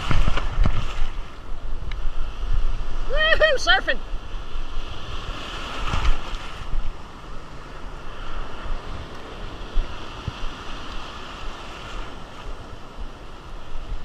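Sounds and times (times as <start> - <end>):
surf breaking in shallow water: 0.0 - 14.0
wind buffeting microphone: 0.0 - 14.0.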